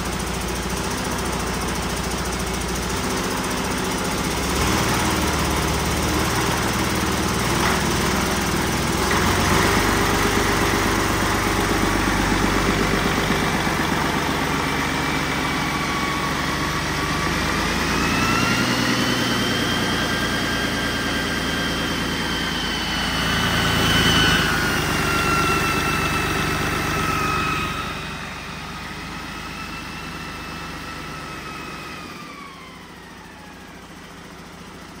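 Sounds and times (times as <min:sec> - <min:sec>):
diesel engine drone: 0:00.0 - 0:35.0
engine high whine: 0:00.0 - 0:35.0.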